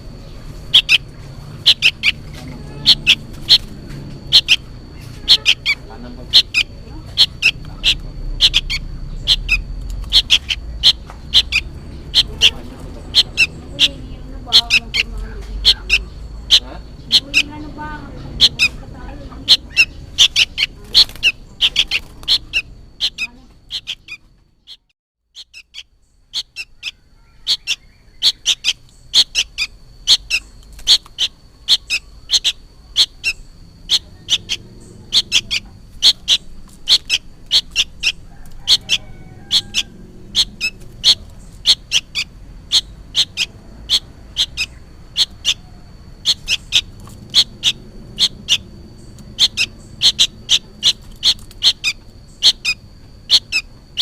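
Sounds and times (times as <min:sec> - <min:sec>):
young bird calling: 0:00.0 - 0:54.0.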